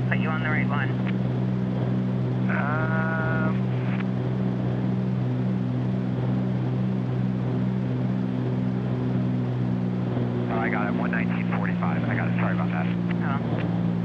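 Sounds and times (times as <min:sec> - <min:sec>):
airplane engines droning: 0:00.0 - 0:14.0.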